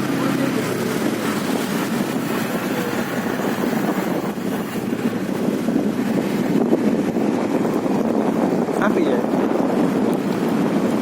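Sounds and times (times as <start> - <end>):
motorcycle running: 0.0 - 11.0
wind buffeting microphone: 0.0 - 11.0.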